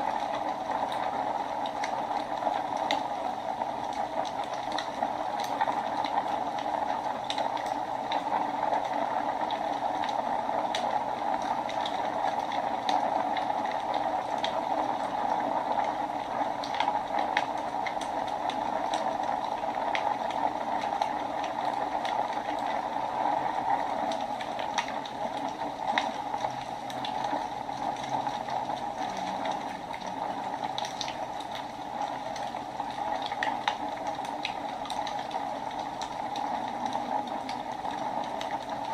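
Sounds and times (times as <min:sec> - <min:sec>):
fire crackles and pops: 0:00.0 - 0:38.9
wood fire hissing: 0:00.0 - 0:38.9.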